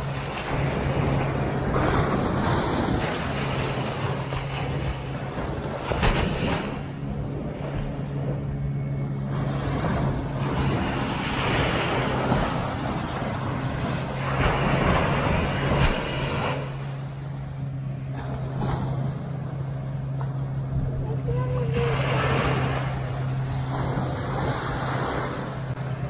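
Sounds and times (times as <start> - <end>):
small waves washing on sand: 0.0 - 8.5, 9.2 - 26.0
engine hum: 0.0 - 26.0.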